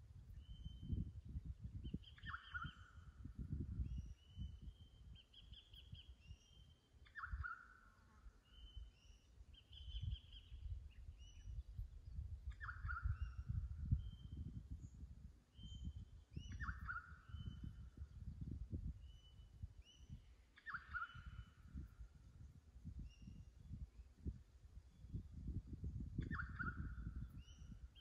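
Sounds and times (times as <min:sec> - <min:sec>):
wind on microphone: 0:00.0 - 0:07.6, 0:08.5 - 0:28.0.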